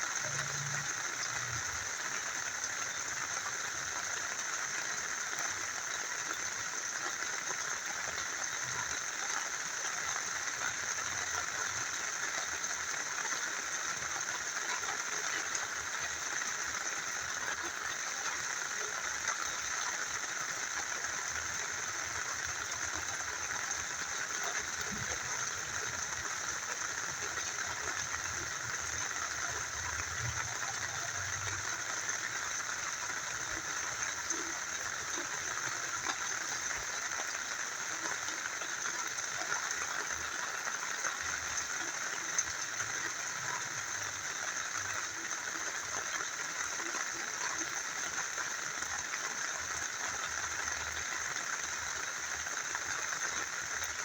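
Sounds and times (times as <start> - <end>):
rain falling: 0.0 - 54.0
small river flowing: 0.0 - 54.0.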